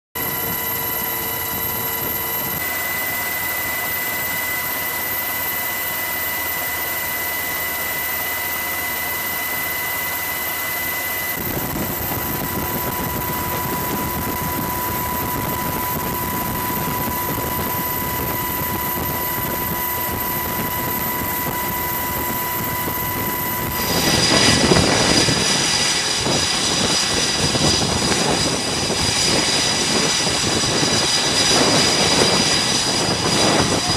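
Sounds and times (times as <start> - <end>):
aircraft engine drone: 0.2 - 33.9
high engine whine: 0.2 - 33.9
jet engine noise: 0.2 - 33.9.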